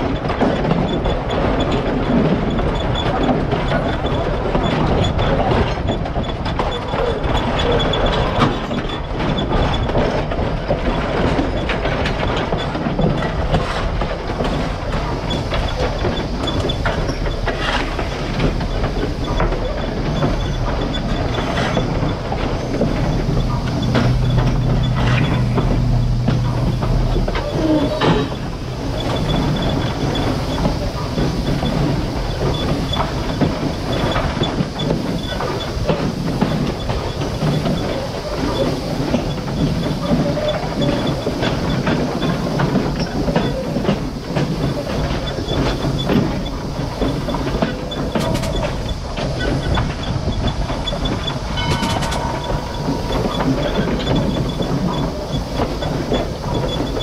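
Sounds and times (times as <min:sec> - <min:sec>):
steam locomotive wheels clattering on rail: 0:00.0 - 0:57.0.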